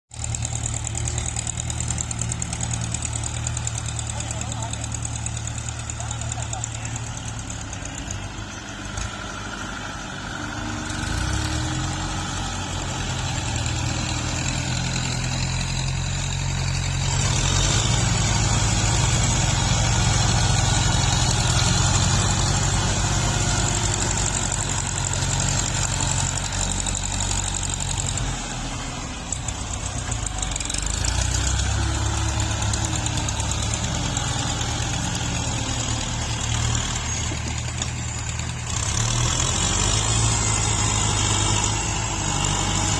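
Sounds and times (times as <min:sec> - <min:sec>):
tractor diesel engine: 0:00.1 - 0:42.9.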